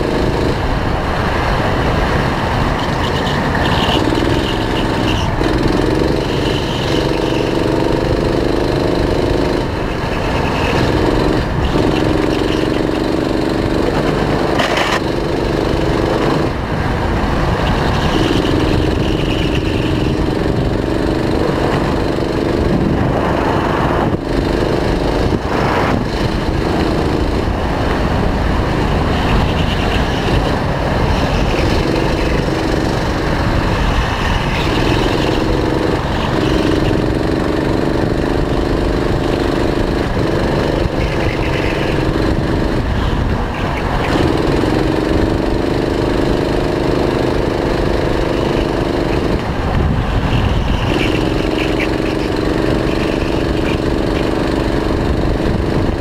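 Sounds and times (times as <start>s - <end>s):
go-kart engine at speed: 0.0s - 56.0s.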